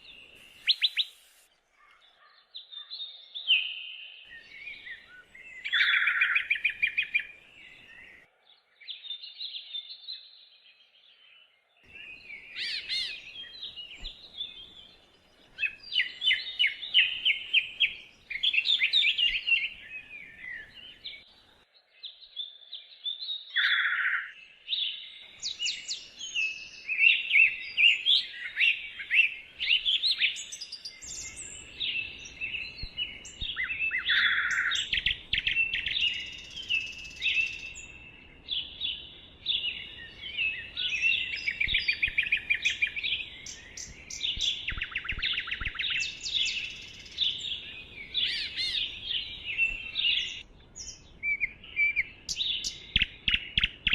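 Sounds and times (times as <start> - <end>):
songbirds singing and chirping: 0.0 - 53.9.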